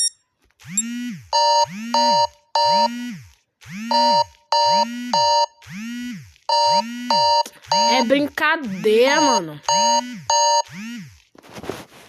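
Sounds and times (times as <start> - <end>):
smartphone alarm tone: 0.0 - 3.2, 3.8 - 5.6, 6.5 - 11.1.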